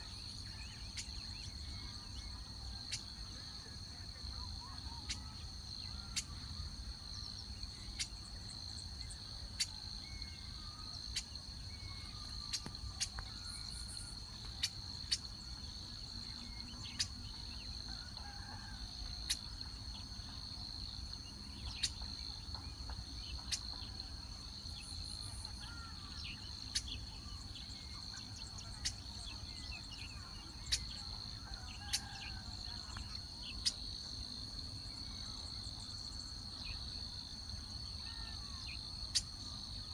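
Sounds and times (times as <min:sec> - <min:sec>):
faint bird chirps: 0:00.0 - 0:36.8, 0:37.6 - 0:39.9
insects trilling: 0:00.0 - 0:39.9.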